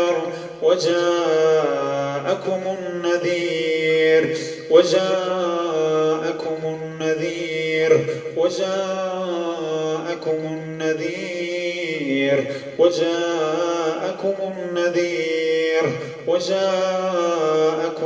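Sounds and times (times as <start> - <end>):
man chanting melodically: 0.0 - 18.0.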